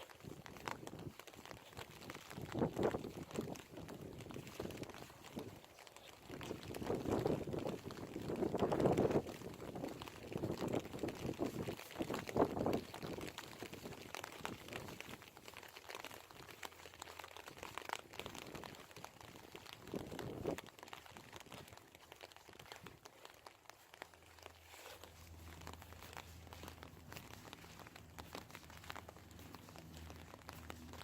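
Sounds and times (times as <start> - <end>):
clothing rustling while walking: 0.0 - 31.0
rain pattering on rain gear: 0.0 - 31.0.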